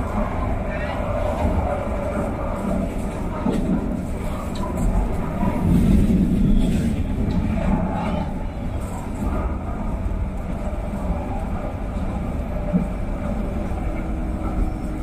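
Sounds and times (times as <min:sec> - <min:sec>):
light-rail train rumbling: 0:00.0 - 0:15.0.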